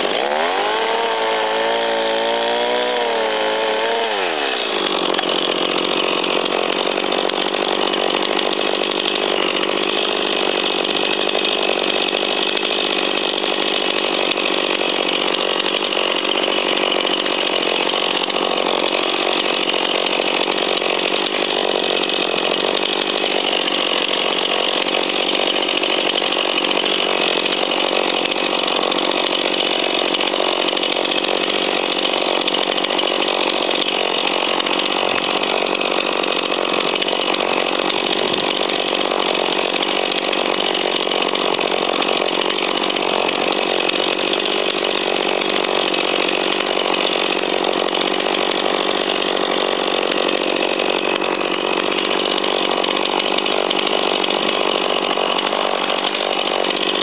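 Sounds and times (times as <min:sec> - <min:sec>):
saw engine running: 0:00.0 - 0:57.0.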